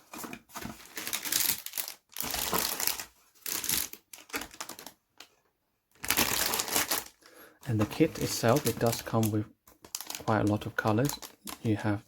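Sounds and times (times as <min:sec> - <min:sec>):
plastic packaging crinkling: 0:00.1 - 0:05.0, 0:05.9 - 0:12.0.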